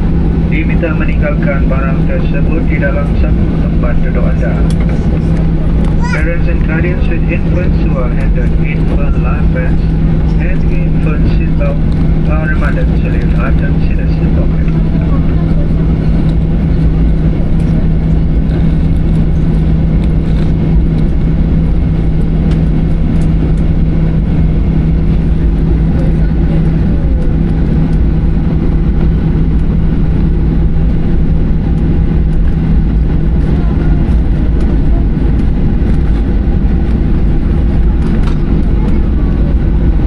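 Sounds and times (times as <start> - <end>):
airplane cabin rumble: 0.0 - 40.0
jet engines humming at idle: 0.0 - 40.0.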